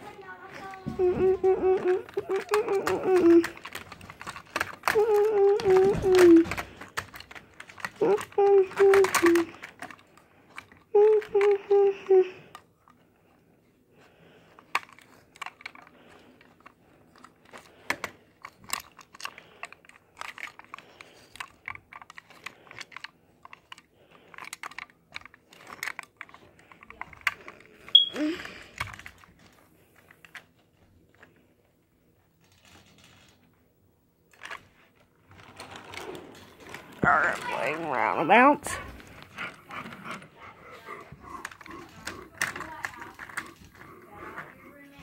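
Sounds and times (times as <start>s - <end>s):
plastic toy train pieces clicking: 0.0s - 13.0s, 14.3s - 31.4s, 32.4s - 33.5s, 34.3s - 40.3s, 41.0s - 45.0s.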